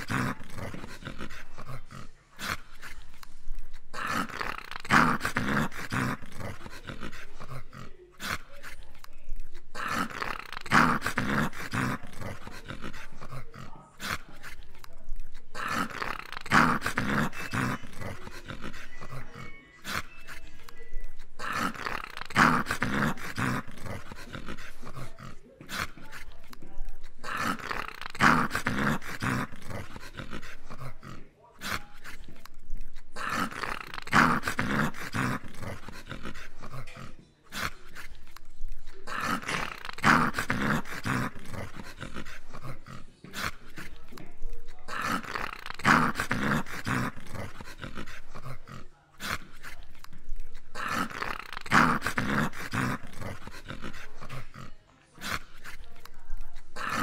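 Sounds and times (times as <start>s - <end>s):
dog play-growling: 0.0s - 57.0s.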